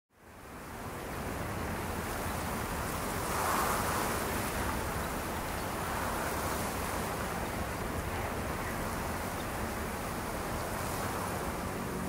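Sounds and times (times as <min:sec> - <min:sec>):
ocean surf washing: 0:00.4 - 0:12.0.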